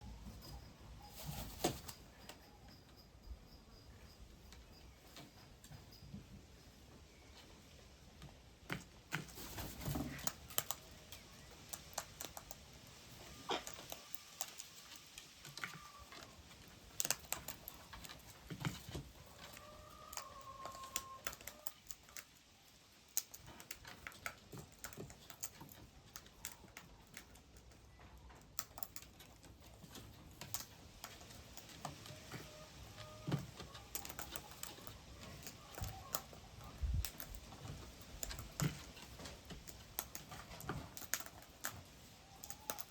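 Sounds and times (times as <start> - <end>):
beaks pecking and tapping: 7.1 - 42.9.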